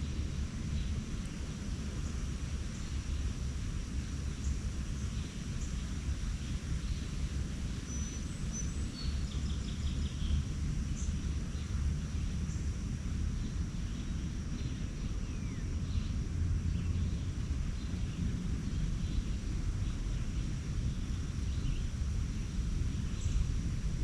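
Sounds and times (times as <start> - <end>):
steady low rumble: 0.0 - 24.0
songbirds chirping: 4.0 - 23.5.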